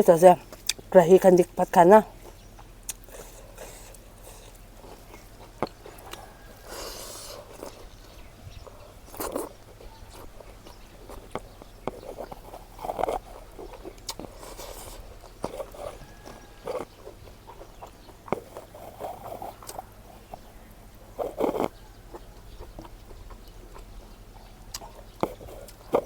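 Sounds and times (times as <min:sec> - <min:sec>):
chewing and mouth smacking: 0:00.2 - 0:26.0.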